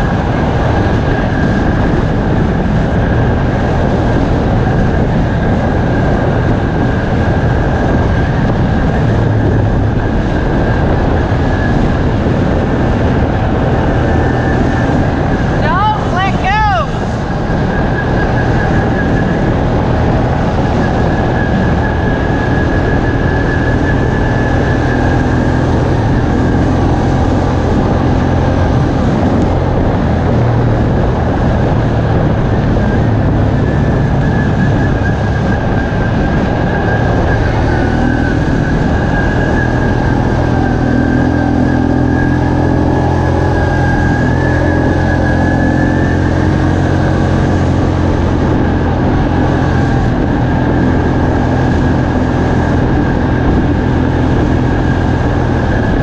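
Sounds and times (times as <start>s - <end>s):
heavy wind: 0.0s - 56.0s
off-road vehicle engine running: 0.0s - 56.0s.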